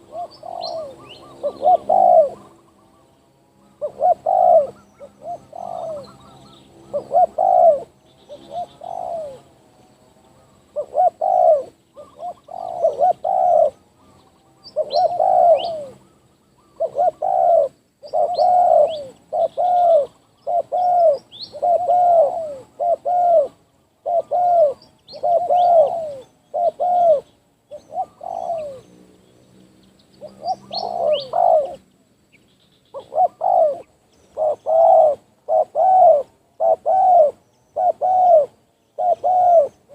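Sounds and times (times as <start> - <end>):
doves cooing: 0.0 - 29.2, 30.1 - 31.9, 32.9 - 39.9
small bird chirping: 0.0 - 39.9.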